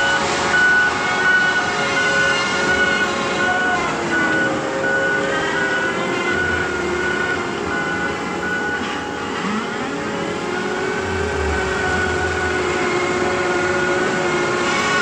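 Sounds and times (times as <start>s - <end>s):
backup alarm beeping: 0.0s - 14.2s
diesel engine running under load: 0.0s - 15.0s.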